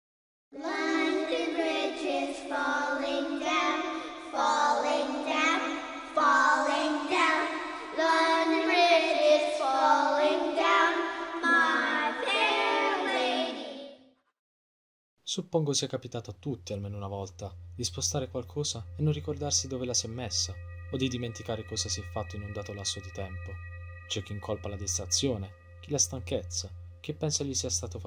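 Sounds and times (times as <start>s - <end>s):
high wavering singing voice: 0.6s - 13.7s, 17.2s - 28.0s.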